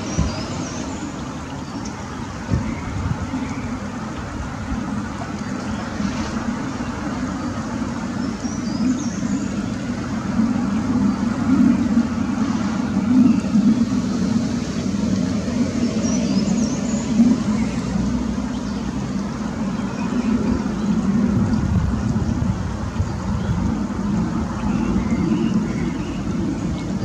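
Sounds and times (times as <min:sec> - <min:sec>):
stream running over stones: 0:00.0 - 0:27.0.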